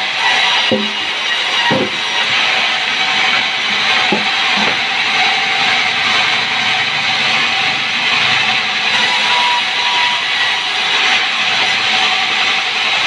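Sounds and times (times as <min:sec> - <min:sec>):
band saw whirring: 0:00.0 - 0:13.0.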